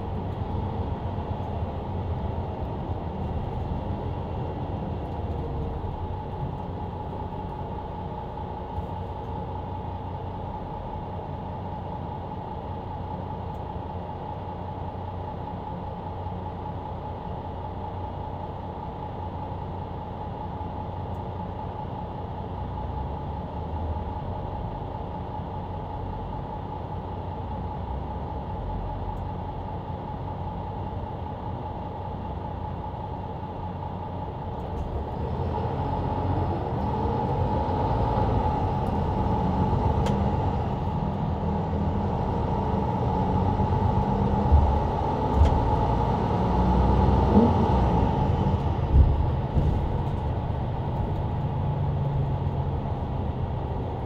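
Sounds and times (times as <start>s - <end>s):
bus engine droning: 0.0s - 54.0s.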